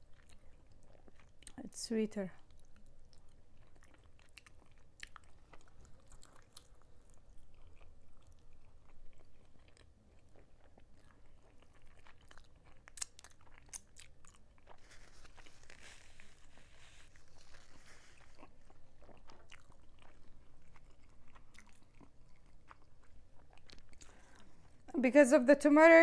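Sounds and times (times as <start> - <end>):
chewing and biting chicken: 0.0 - 1.6, 2.4 - 24.9.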